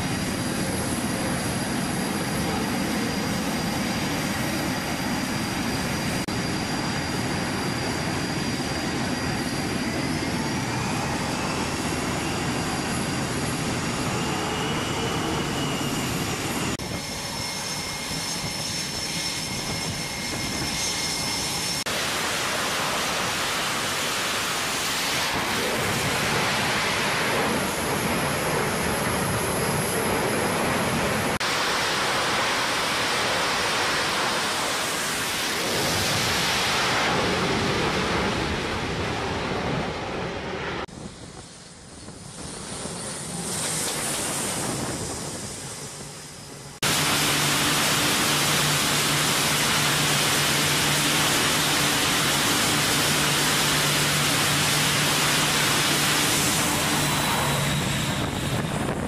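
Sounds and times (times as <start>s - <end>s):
jet engines roaring with whine: 0.0s - 59.0s.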